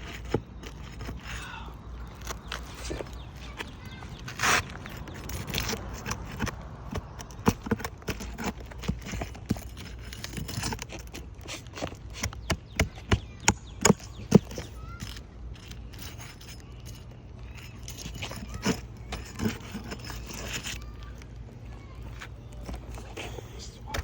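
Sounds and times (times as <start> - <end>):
hand tool scraping under shingles: 0.0 - 24.0
shingles tearing: 0.0 - 24.0.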